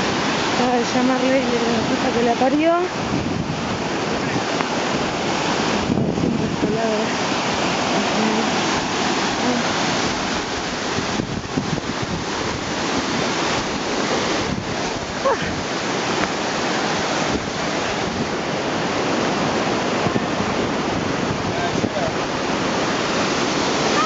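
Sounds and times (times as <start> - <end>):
river rushing over rapids: 0.0 - 24.0.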